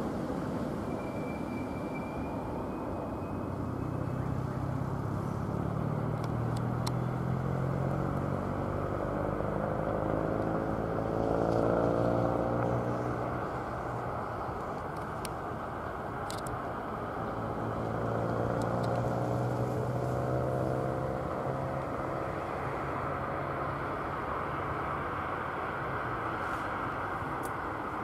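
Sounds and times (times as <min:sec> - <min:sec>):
distant jet engine rumble: 0:00.0 - 0:28.0.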